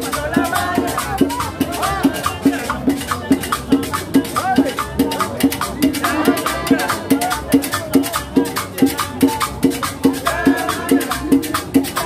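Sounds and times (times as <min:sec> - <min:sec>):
drum beat: 0:00.0 - 0:12.0
high percussion: 0:00.0 - 0:12.0.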